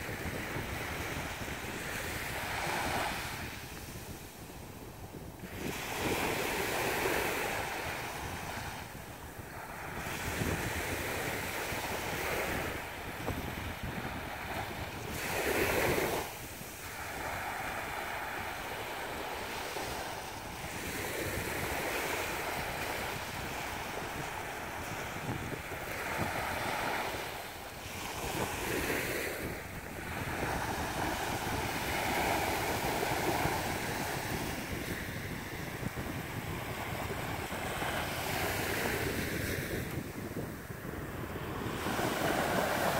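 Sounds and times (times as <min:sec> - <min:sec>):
small surf breaking on beach: 0:00.0 - 0:42.9
wind rumble on microphone: 0:00.0 - 0:42.9.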